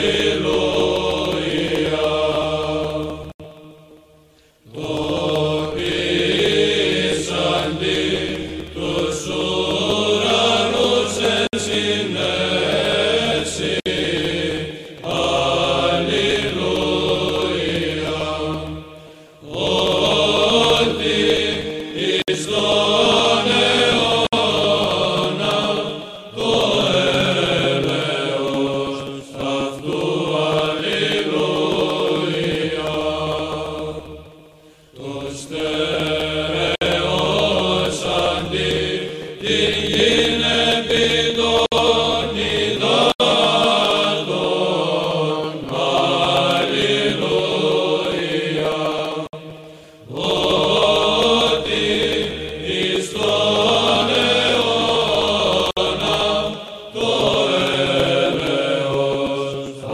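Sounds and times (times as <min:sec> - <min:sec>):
chanted singing: 0:00.0 - 0:59.9.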